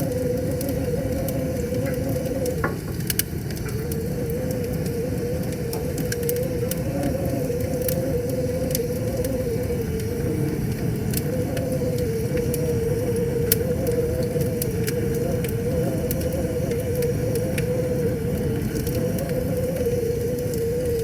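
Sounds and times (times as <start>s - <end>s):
wavering hum: 0.0s - 21.0s
wood fire crackling and popping: 0.0s - 21.0s.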